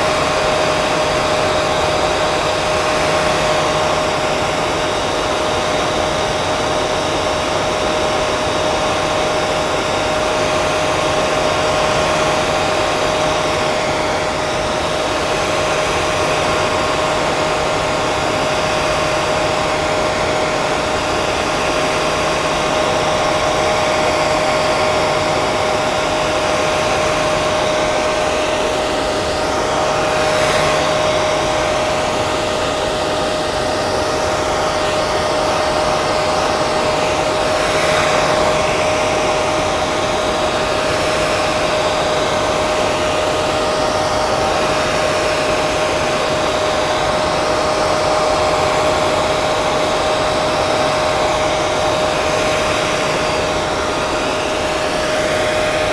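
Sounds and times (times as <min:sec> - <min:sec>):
hair dryer running: 0:00.0 - 0:55.9.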